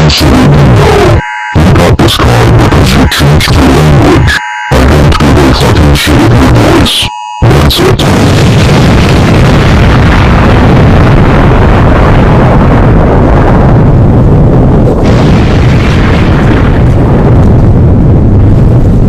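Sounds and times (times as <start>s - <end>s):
loud distorted explosion: 0.0s - 19.0s.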